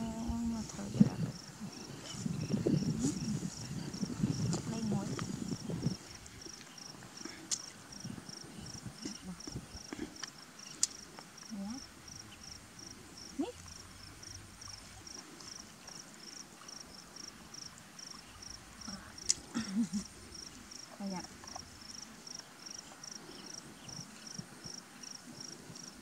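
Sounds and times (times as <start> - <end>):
insect chirping: 0.0 - 26.0.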